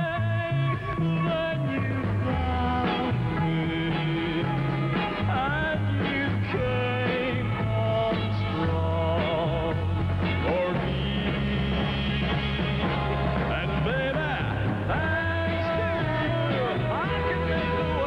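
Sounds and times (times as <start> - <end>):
band accompaniment: 0.0 - 18.0
man singing pop ballad: 0.0 - 18.0.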